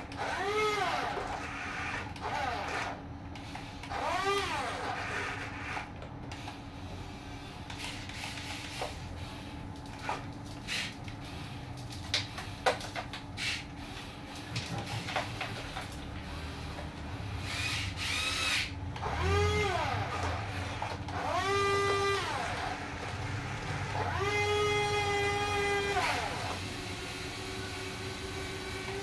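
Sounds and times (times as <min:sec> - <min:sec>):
small electric motors whining: 0:00.0 - 0:07.1, 0:10.0 - 0:12.3, 0:13.4 - 0:29.0.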